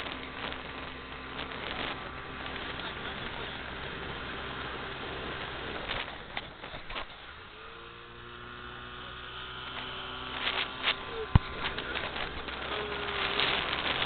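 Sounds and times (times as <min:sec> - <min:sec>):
wind and water noise: 0:00.0 - 0:07.7, 0:09.1 - 0:14.0
boat engine droning: 0:00.0 - 0:14.0.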